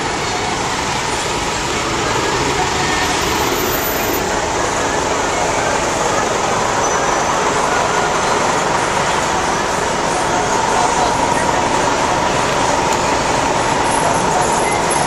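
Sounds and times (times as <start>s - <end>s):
faint murmur of voices: 0.0s - 15.0s
traffic: 0.0s - 15.0s.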